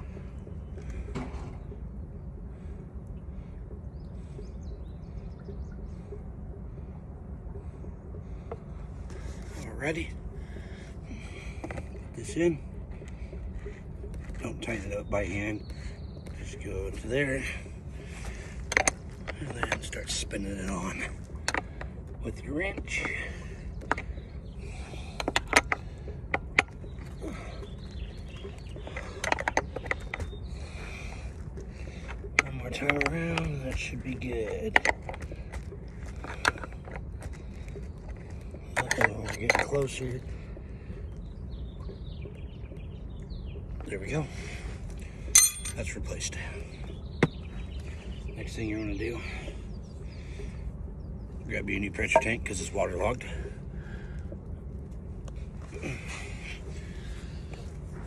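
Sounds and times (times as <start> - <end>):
low background rumble: 0.0 - 58.0
steady low hum: 0.0 - 58.0.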